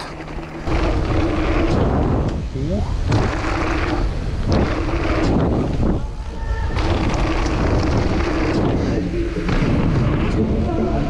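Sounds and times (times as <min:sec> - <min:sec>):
bike rumbling down dirt trail: 0:00.0 - 0:11.0
wind buffeting microphone: 0:00.0 - 0:11.0.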